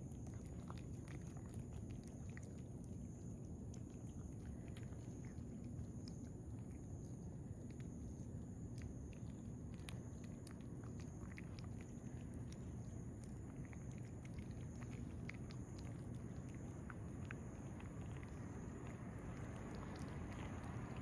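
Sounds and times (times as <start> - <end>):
cats chewing wet food: 0.0 - 21.0
low background noise: 0.0 - 21.0.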